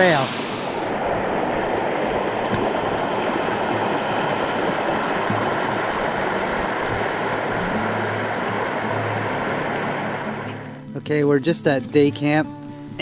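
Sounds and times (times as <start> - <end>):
small waterfall splashing: 0.0 - 10.4.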